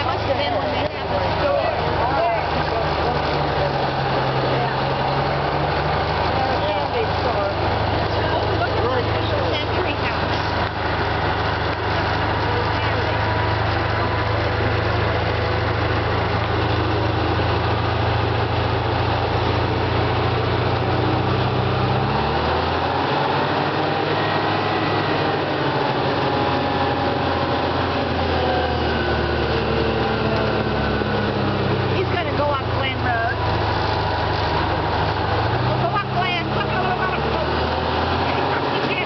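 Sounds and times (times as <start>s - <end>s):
fire engine driving: 0.0s - 39.0s
road noise: 0.0s - 39.0s.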